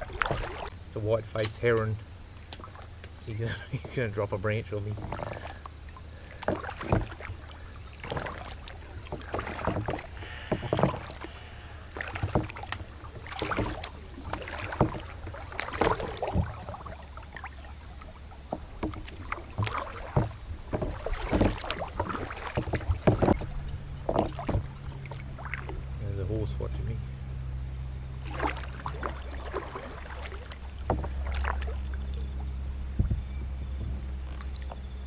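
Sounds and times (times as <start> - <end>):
kayak paddle splashing: 0.0 - 35.0
steady low hum: 0.0 - 35.0.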